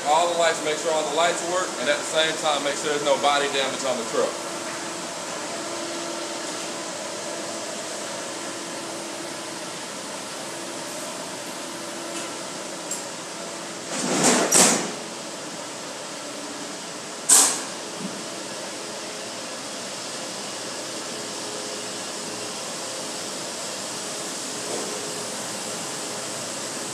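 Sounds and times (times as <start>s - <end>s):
steady mechanical hum: 0.0s - 26.9s.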